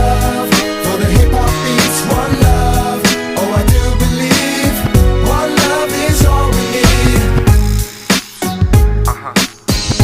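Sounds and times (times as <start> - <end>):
pop r and b music with vocals: 0.0 - 10.0.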